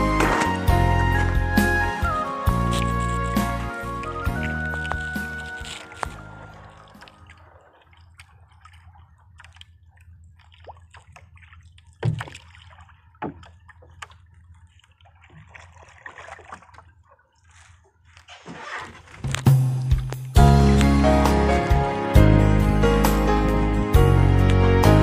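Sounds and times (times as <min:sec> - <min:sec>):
paddle splashing in water: 0:00.0 - 0:21.8.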